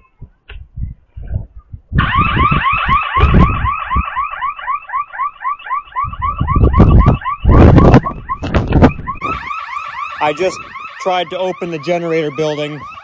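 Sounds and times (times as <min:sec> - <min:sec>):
warbling alarm siren: 0:02.0 - 0:13.0.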